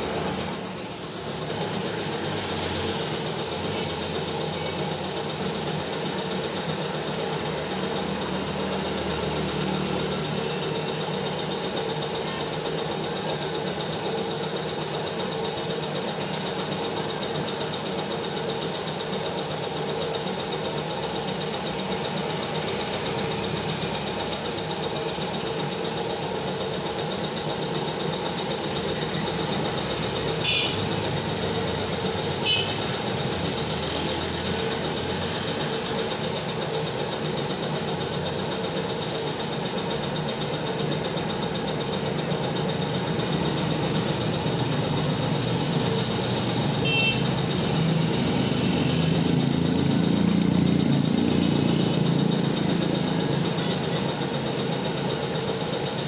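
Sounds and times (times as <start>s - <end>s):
air compressor running: 0.0s - 56.0s
spray gun hissing: 0.0s - 56.0s.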